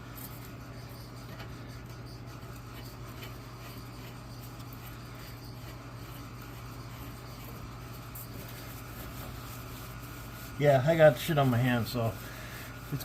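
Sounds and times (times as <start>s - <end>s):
steady low hum: 0.0s - 13.0s
faint rubbing: 0.2s - 13.0s.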